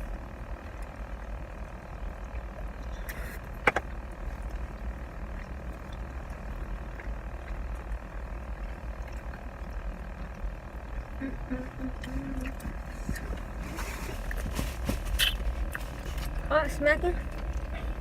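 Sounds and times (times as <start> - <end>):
car interior rumble: 0.0 - 18.0.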